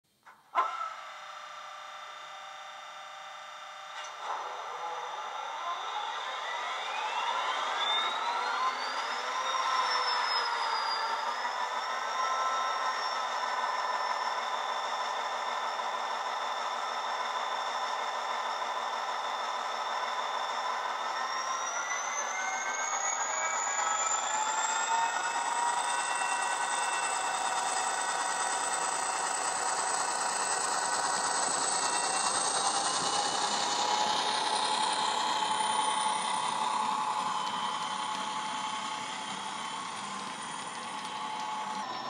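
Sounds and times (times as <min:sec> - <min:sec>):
high turbo whine: 0:01.0 - 0:42.0
diesel locomotive engine sound: 0:01.5 - 0:42.0.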